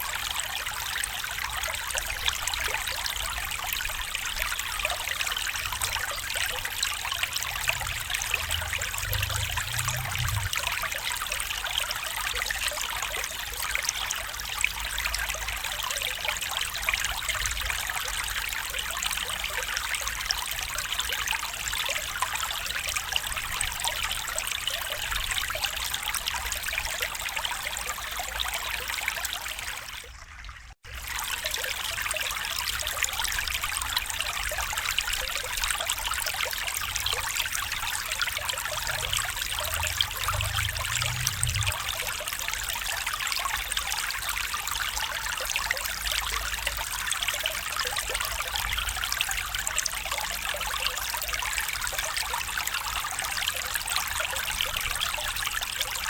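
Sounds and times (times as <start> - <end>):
stream trickling and babbling: 0.0 - 56.0.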